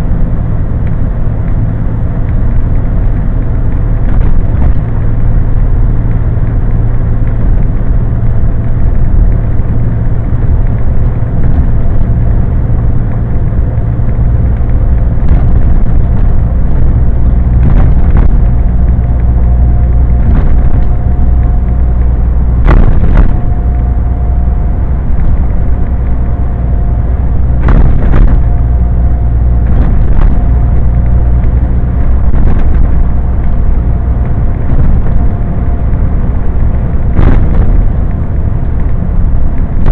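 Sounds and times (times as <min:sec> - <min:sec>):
faint steady whine: 0:00.0 - 0:39.9
truck engine and road rumble: 0:00.0 - 0:39.9.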